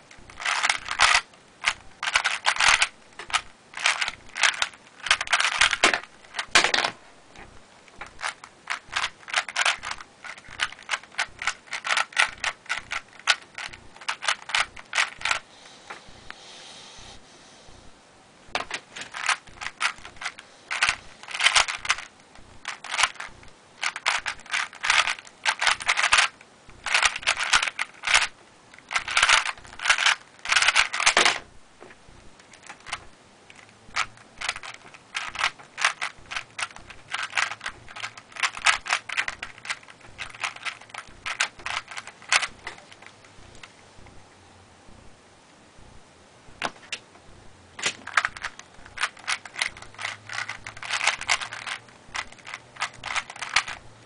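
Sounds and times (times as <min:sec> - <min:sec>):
plastic cube clicking as layers turn: 0:00.1 - 0:07.0, 0:07.9 - 0:15.4, 0:18.6 - 0:31.5, 0:32.4 - 0:43.7, 0:47.8 - 0:53.9.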